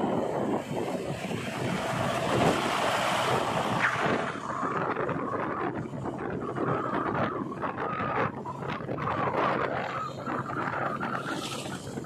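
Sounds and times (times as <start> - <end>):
diesel engine running: 0.0 - 12.0
wind on microphone: 0.0 - 12.0.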